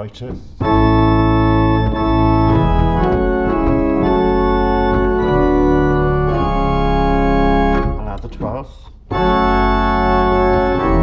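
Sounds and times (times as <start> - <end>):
pipe organ playing hymn chords: 0.6 - 8.4, 9.1 - 11.0.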